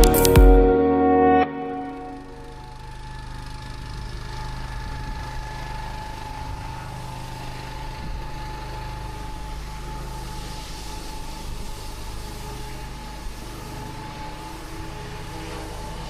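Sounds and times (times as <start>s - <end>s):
steady high whine: 0.0s - 16.0s
pressure washer engine running: 2.2s - 16.0s.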